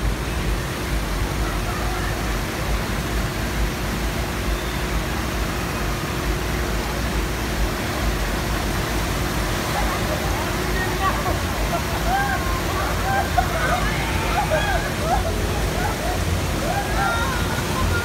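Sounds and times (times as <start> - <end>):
water rushing down slide: 0.0 - 18.0.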